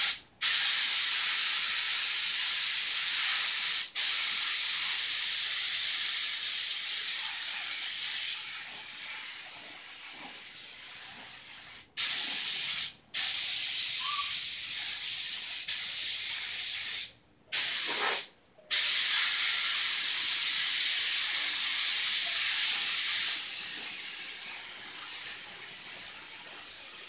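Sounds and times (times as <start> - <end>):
paint spray gun hissing: 0.0 - 27.0.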